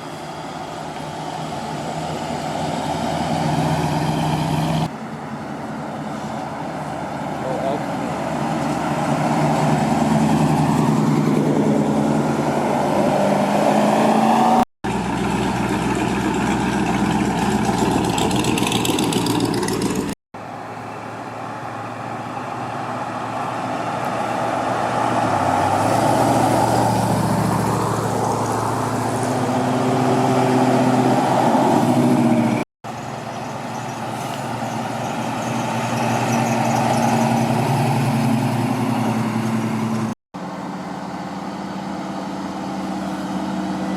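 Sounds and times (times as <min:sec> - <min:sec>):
cars driving past: 0:00.0 - 0:43.9.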